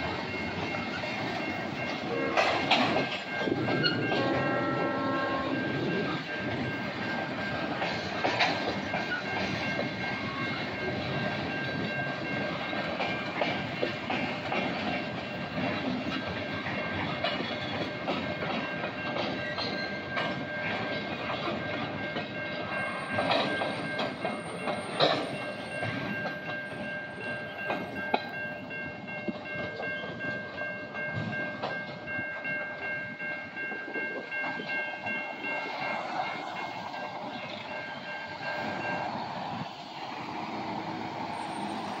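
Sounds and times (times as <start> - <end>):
wheels clicking over rail joints: 0.0 - 42.0.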